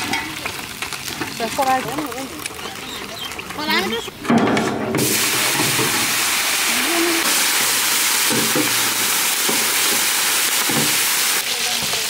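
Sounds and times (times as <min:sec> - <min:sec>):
fish sizzling in hot oil: 0:00.0 - 0:02.8, 0:05.0 - 0:12.0.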